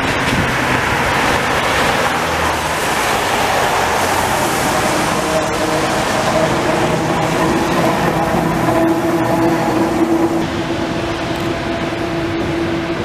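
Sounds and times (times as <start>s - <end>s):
electric tram whine: 0.0s - 13.0s
tyres hissing on wet road: 0.0s - 13.0s.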